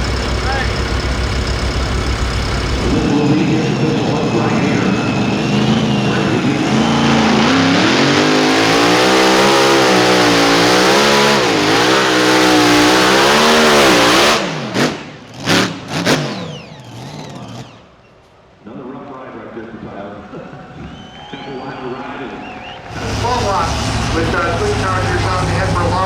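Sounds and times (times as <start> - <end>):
engine at full throttle: 0.0 - 17.9, 22.9 - 26.0.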